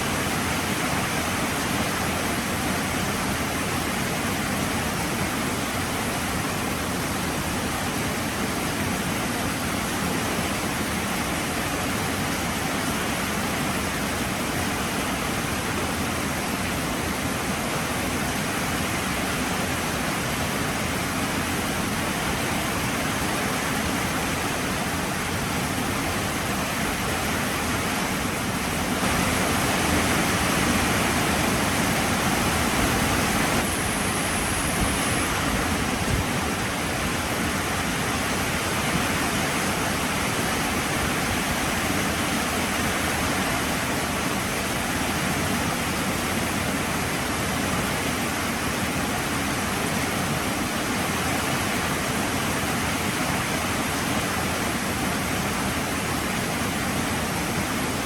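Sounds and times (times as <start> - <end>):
heavy rain pouring: 0.0 - 50.6.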